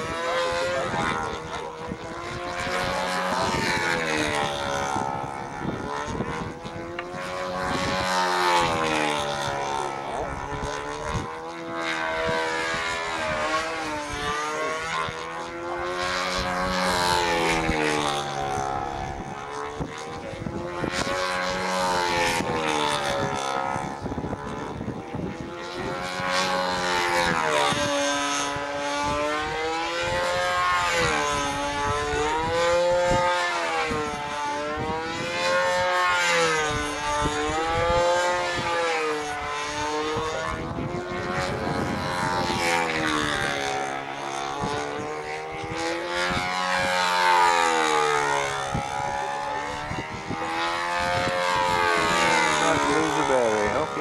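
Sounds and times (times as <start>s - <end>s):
model airplane engine running: 0.0s - 54.0s.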